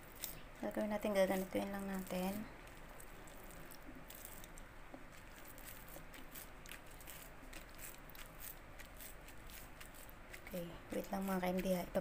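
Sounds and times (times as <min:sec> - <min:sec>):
soft pats and squishes of mash: 0:00.0 - 0:12.0.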